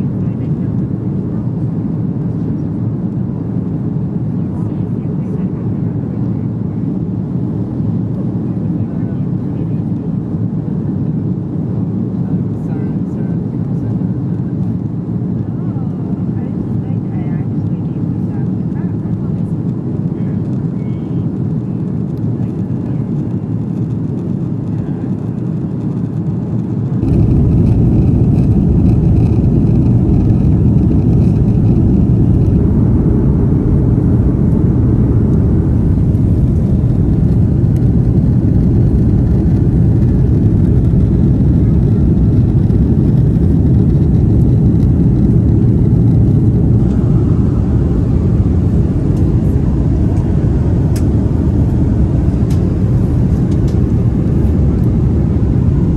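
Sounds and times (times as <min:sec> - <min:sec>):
jet engines rumbling: 0:00.0 - 0:55.9
cabin airflow: 0:00.2 - 0:55.9.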